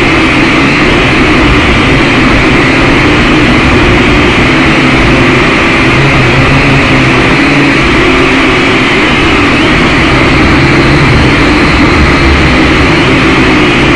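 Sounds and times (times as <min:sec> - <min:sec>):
drone motors whirring: 0:00.0 - 0:13.9.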